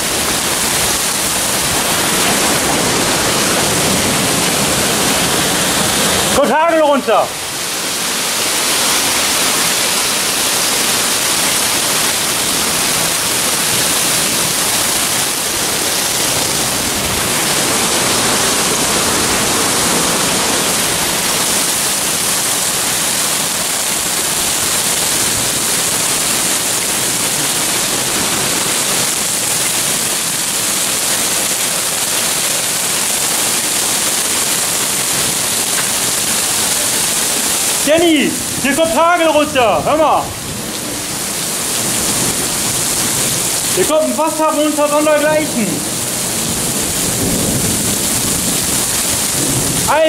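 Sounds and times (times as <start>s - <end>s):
hail and torrential rain: 0.0s - 50.0s.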